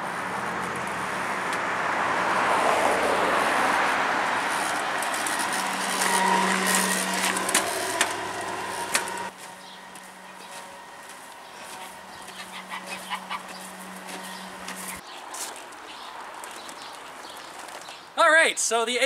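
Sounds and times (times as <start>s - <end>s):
car passing: 0.0s - 17.8s.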